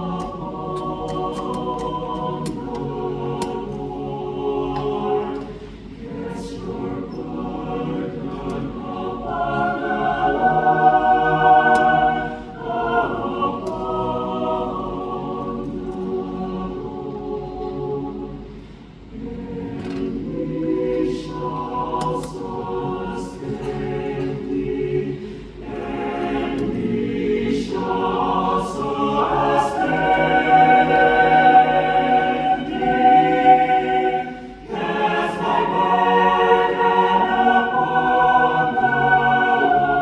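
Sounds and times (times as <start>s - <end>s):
choir singing held chords: 0.0s - 40.0s.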